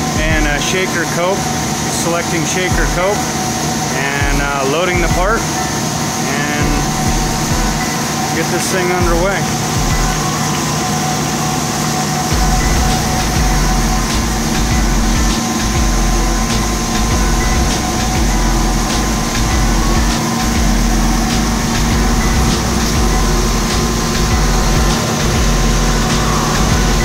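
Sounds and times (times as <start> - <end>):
deep machine rumble: 0.0 - 3.4, 4.0 - 8.3, 9.0 - 10.5, 12.3 - 27.0
machine hum: 0.0 - 27.0.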